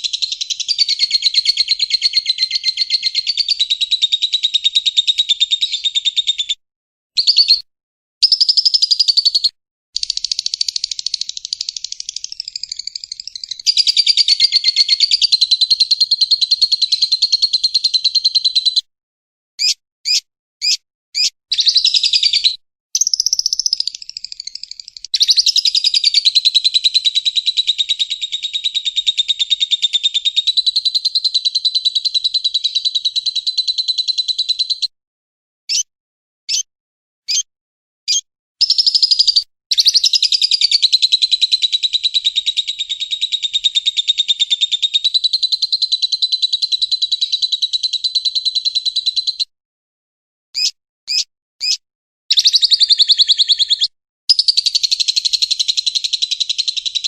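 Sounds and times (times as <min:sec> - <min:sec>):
bird rapid chattering trill: 0:00.0 - 0:06.5, 0:07.2 - 0:07.6, 0:08.2 - 0:18.8, 0:19.6 - 0:34.8, 0:35.7 - 0:35.9, 0:36.5 - 0:36.7, 0:38.1 - 0:49.5, 0:50.6 - 0:57.0
bird chirps: 0:00.0 - 0:06.6, 0:07.2 - 0:18.9, 0:19.6 - 0:34.9, 0:35.7 - 0:35.9, 0:36.5 - 0:36.7, 0:37.3 - 0:37.5, 0:38.1 - 0:49.5, 0:50.6 - 0:57.0.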